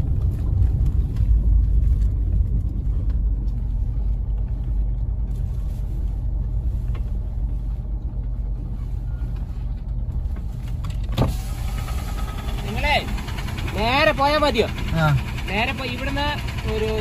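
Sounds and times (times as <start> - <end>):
car driving on dirt road: 0.0 - 17.0.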